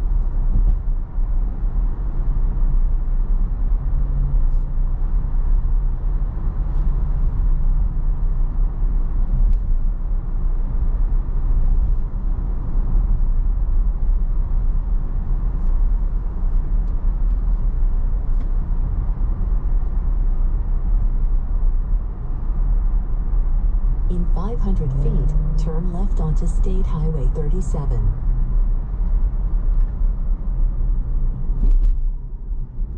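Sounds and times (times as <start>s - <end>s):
road and tyre rumble in car: 0.0s - 32.9s.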